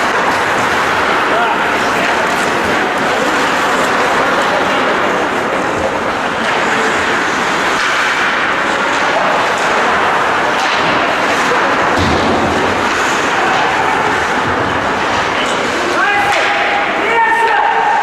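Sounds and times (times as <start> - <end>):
ice rink crowd noise: 0.0 - 18.0.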